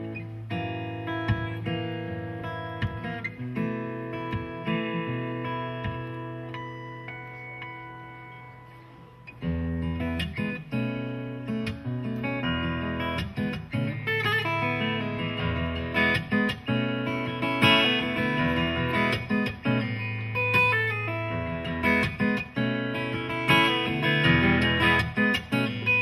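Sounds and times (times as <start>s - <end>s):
fingerstyle acoustic guitar: 0.0s - 26.0s.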